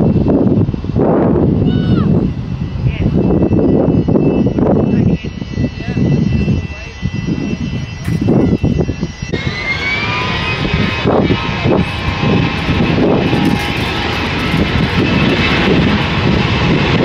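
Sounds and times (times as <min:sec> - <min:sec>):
jet engines whining at takeoff: 0:00.0 - 0:17.0.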